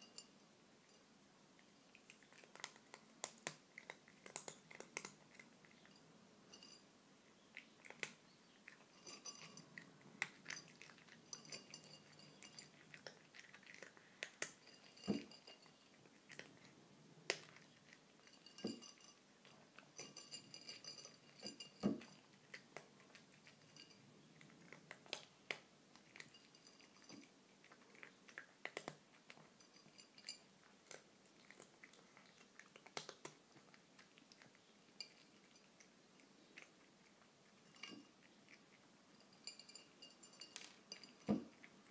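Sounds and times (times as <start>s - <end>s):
kitten crunching dry kibble: 1.6s - 6.0s, 7.3s - 41.9s.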